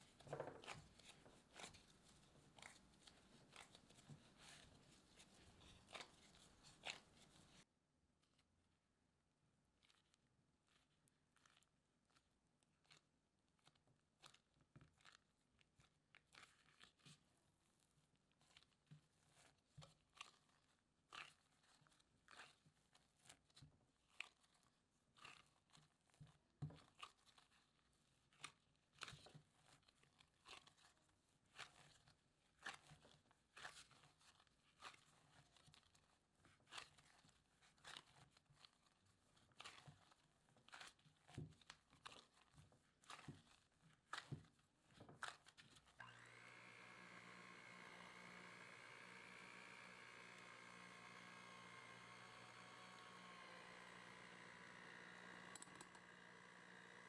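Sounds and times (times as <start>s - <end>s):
dough squelching while kneaded: 0.0s - 57.0s.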